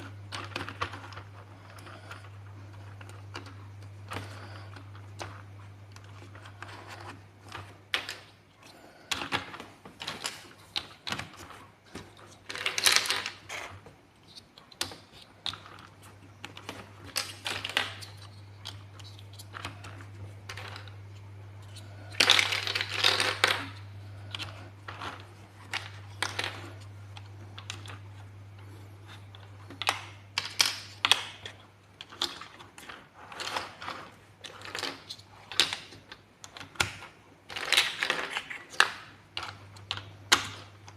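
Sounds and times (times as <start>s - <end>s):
plastic blocks clicking: 0.0s - 8.4s, 9.0s - 28.3s, 29.0s - 40.9s.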